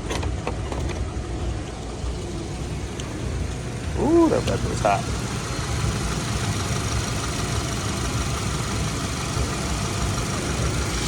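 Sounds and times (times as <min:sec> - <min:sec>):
engine idling: 0:01.2 - 0:11.0.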